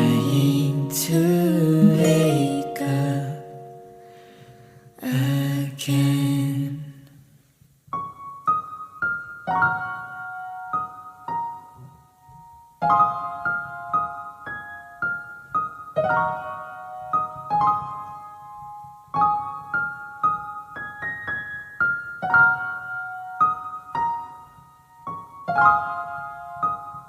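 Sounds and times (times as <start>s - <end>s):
soft piano slow melody: 0.0s - 7.3s, 7.9s - 27.0s.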